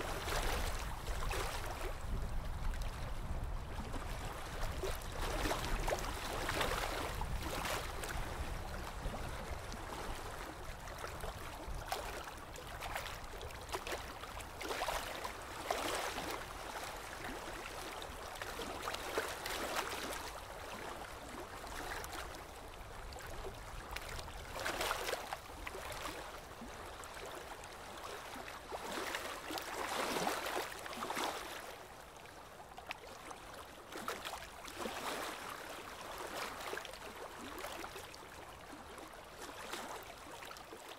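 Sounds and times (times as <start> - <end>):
water lapping and splashing: 0.0 - 40.9.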